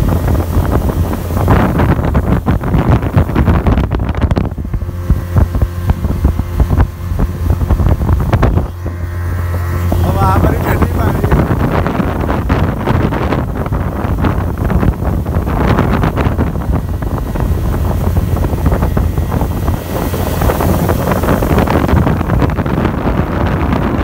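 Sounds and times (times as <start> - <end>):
outboard motor running: 0.0 - 24.0
water rushing past hull: 0.0 - 24.0
wind buffeting microphone: 0.0 - 24.0.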